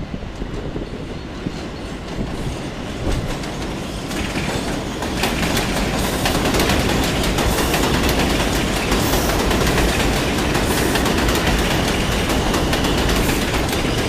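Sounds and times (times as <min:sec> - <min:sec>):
subway train rumbling: 0:00.0 - 0:14.0
wheels clicking over rail joints: 0:01.7 - 0:14.0.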